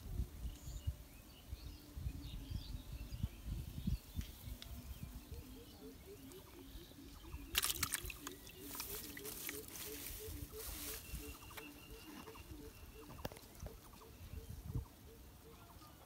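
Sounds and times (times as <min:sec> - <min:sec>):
faint bird chirps: 0:00.1 - 0:16.0.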